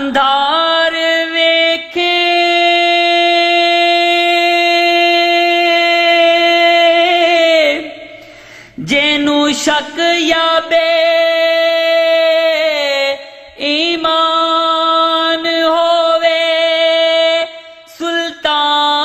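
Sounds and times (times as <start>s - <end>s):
man singing unaccompanied: 0.0s - 8.1s, 8.8s - 19.0s.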